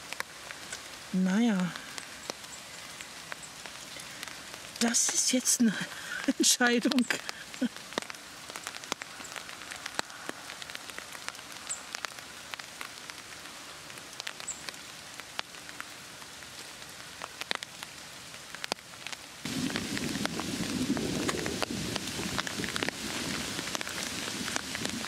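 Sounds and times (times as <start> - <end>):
rain hiss: 0.0 - 25.0
raindrops ticking: 0.0 - 25.0.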